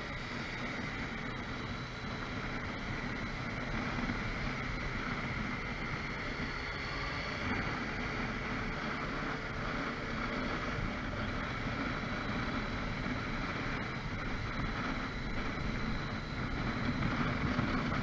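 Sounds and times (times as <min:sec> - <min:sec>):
city traffic hum: 0:00.0 - 0:18.0.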